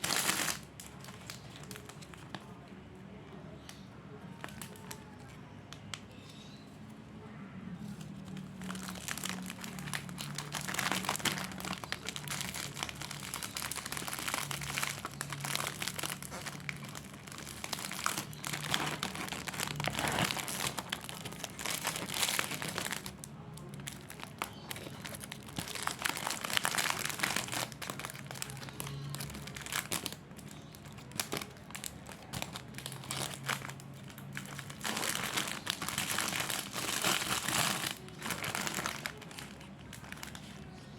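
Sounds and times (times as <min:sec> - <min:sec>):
plastic packaging crinkling: 0:00.0 - 0:02.8, 0:03.6 - 0:06.6, 0:07.8 - 0:40.9.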